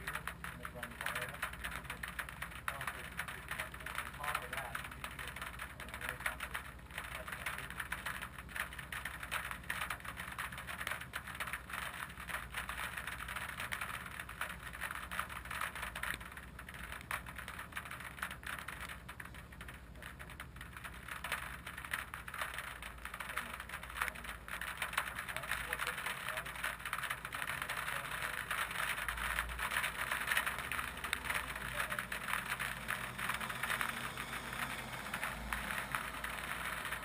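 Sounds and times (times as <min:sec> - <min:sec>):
car engine idling: 0:00.0 - 0:37.0
crackling microphone hiss: 0:00.0 - 0:37.0.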